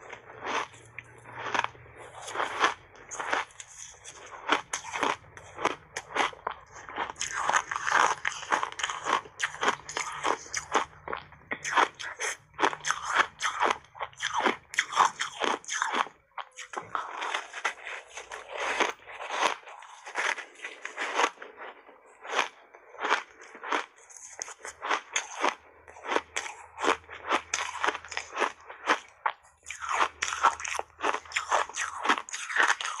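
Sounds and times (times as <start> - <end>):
ice being crunched by chewing: 0.0 - 33.0.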